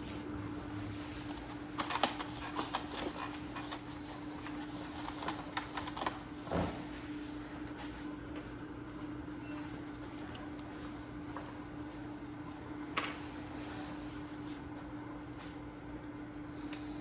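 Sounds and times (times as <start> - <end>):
printer hum: 0.0 - 17.0.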